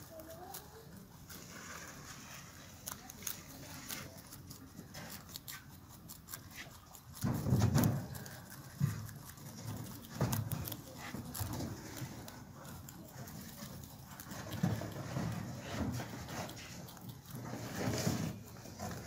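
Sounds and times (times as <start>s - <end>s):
rabbits chewing grass: 0.0s - 19.0s.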